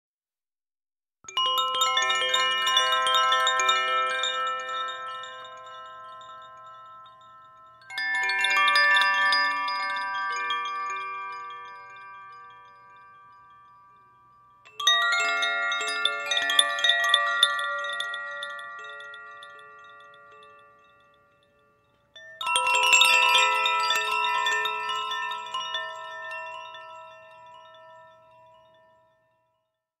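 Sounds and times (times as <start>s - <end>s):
chimes ringing: 1.3s - 29.4s.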